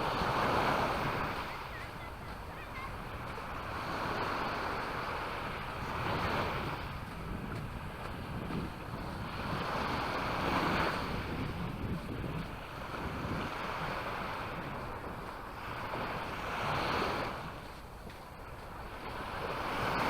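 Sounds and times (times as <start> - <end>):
sea waves breaking: 0.0 - 20.0
wind rumbling on microphone: 0.0 - 20.0.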